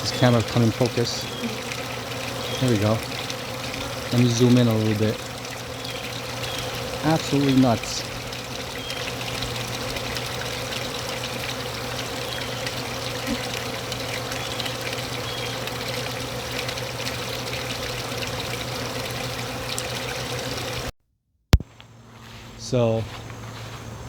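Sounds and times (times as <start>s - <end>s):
bees buzzing: 0.0s - 20.9s.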